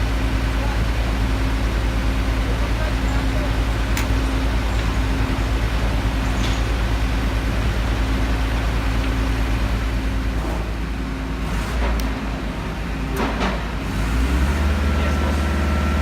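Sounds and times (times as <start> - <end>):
large engine rumbling: 0.0 - 16.0.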